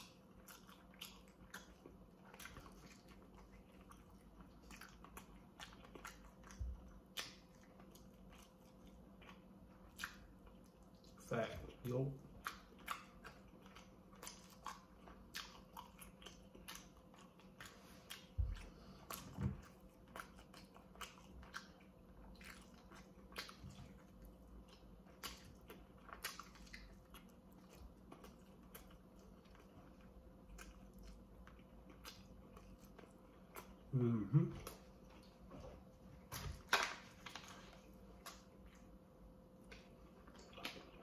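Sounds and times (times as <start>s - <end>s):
chewing and mouth clicks: 0.0s - 41.0s.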